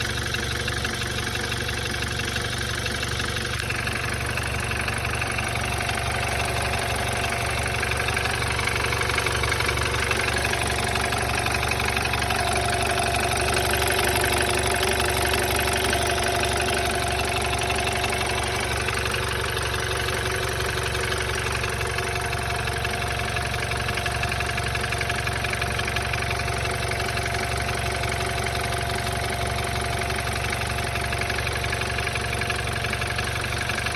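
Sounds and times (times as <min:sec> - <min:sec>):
car engine idling with knocking: 0:00.0 - 0:33.9.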